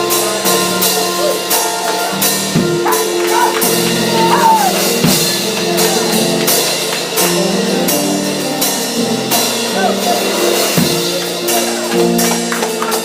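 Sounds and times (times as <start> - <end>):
drum kit: 0.0 - 13.0
organ chords: 0.0 - 13.0.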